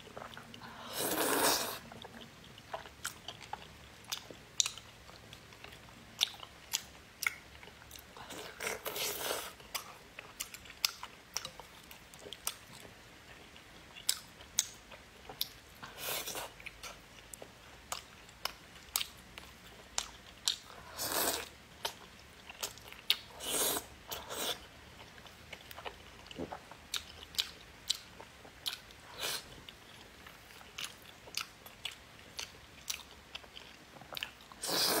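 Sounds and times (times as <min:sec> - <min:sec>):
wet chewing with mouth clicks: 0:00.0 - 0:35.0.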